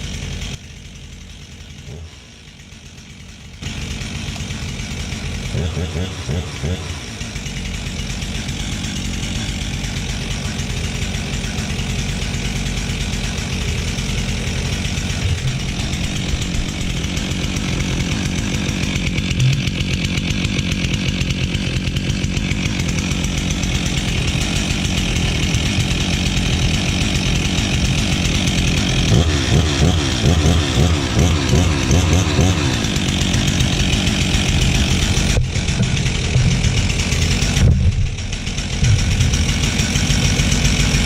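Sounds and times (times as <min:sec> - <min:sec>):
chainsaw engine running: 0:00.0 - 0:41.0.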